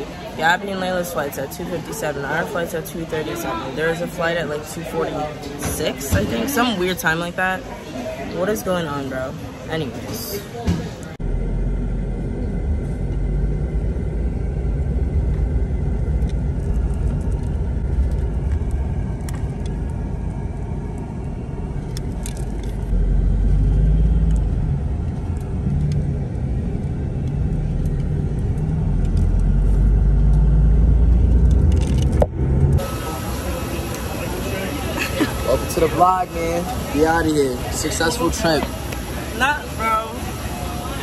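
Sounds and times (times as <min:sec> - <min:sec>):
vehicle engine and road rumble: 0:00.0 - 0:41.0.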